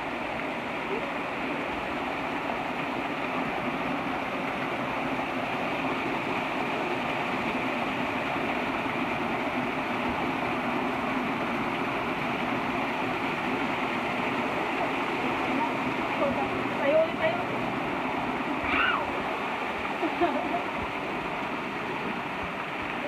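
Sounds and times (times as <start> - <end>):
water rushing down spillway: 0.0 - 23.0.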